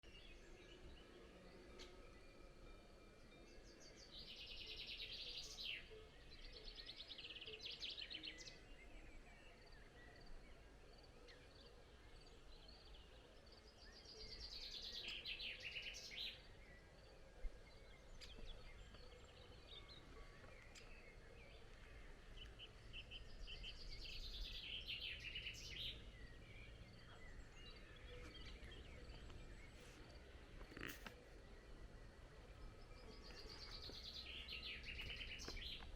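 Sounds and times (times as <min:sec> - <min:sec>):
low outdoor background hum: 0:00.0 - 0:35.9
songbirds trilling: 0:00.0 - 0:35.9.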